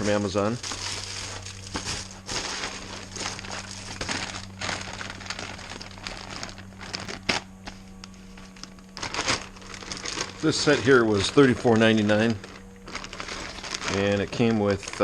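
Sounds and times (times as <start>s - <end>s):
packaging crinkling: 0.0s - 15.0s
steady low hum: 0.0s - 15.0s.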